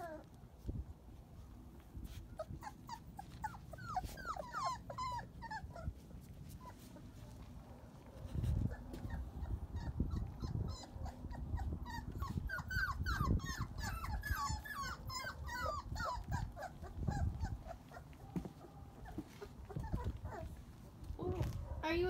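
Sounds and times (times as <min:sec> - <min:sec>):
puppies whining and yipping: 0:00.0 - 0:00.4, 0:01.9 - 0:21.6.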